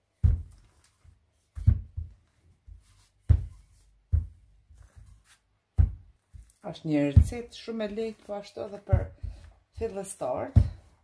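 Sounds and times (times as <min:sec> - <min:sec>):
rolling pin thudding on dough: 0:01.5 - 0:11.0.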